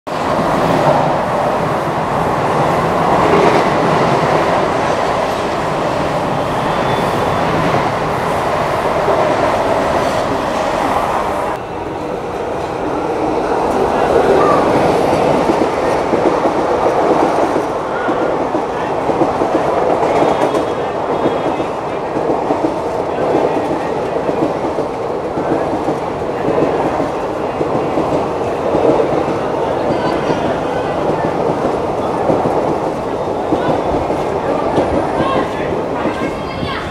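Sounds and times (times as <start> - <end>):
train rumble and wheel clatter: 0.1 - 36.9.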